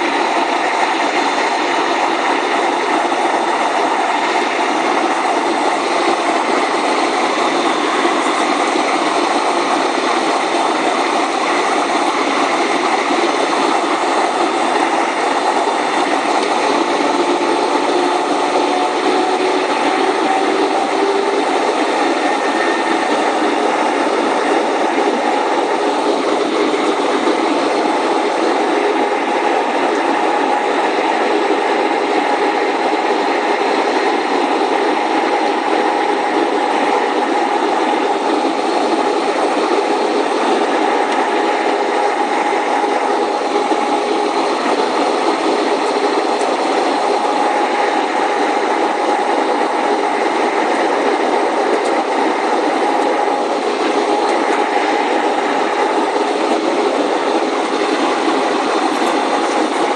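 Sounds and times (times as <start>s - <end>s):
jet engine hum: 0.0s - 59.9s
rushing air in cabin: 0.0s - 59.9s.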